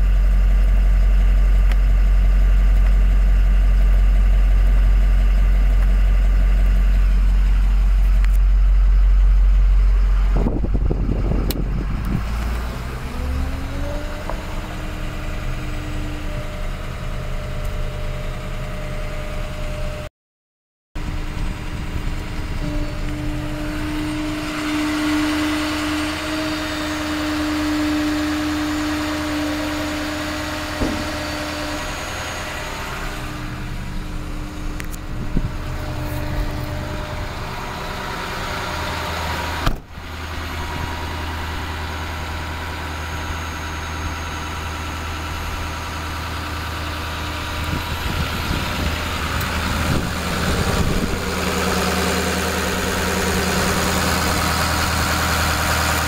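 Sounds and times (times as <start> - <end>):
steady whine: 0.0 - 20.1, 21.0 - 56.0
truck engine idling: 0.0 - 20.1, 21.0 - 56.0.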